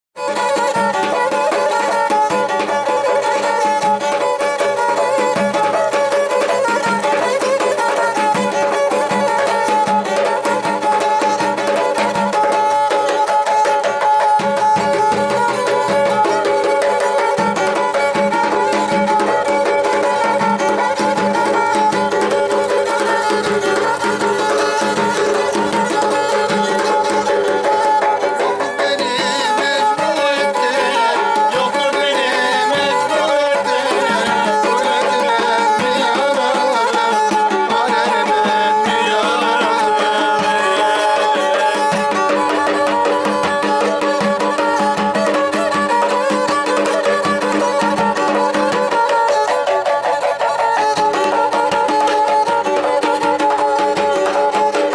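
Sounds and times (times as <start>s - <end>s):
bowed fiddle melody: 0.2s - 54.9s
drum beating: 0.2s - 54.9s.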